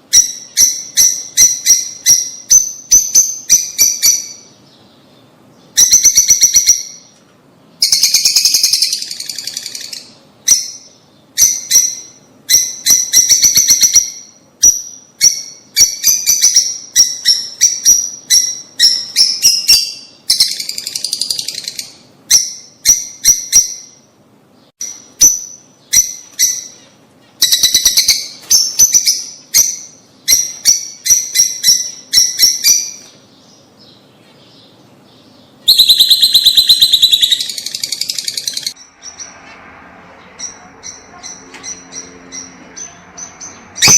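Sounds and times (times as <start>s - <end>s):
lovebirds chirping: 0.0s - 39.6s, 40.2s - 43.9s.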